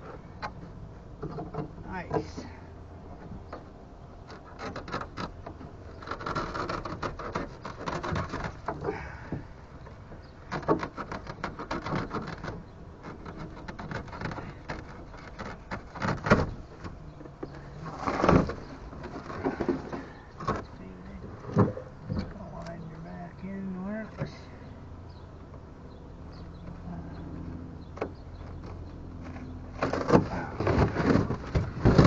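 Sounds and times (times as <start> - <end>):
rustling: 0.0 - 23.2, 28.2 - 32.0.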